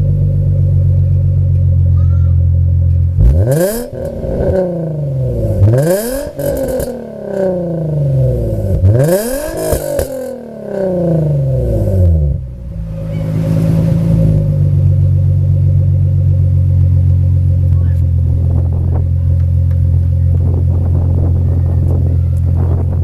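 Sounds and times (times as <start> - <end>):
car engine revving and idling: 0.0 - 23.0.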